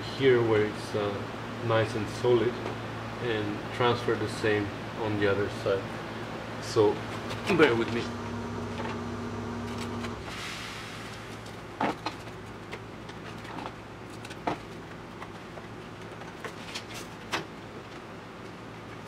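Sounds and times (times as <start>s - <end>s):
steady hum: 0.0s - 16.4s.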